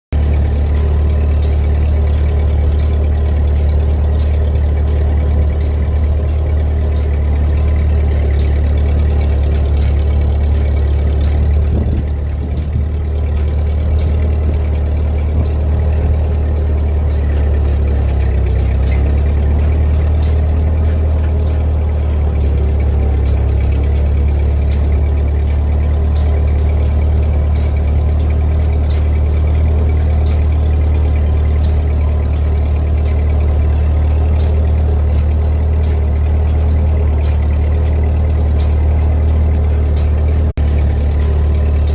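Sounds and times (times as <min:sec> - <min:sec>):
tractor engine droning: 0:00.1 - 0:41.9
rake clicking: 0:00.2 - 0:41.9.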